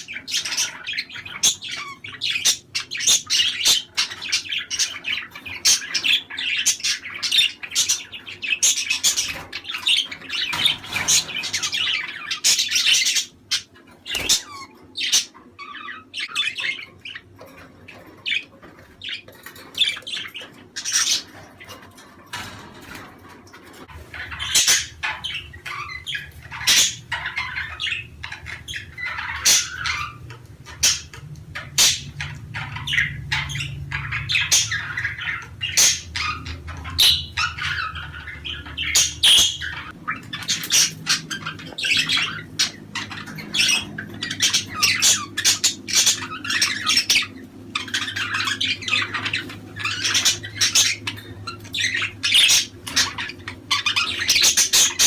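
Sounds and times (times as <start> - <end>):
budgerigars chattering: 0.0 - 55.0
low steady hum: 0.0 - 55.0.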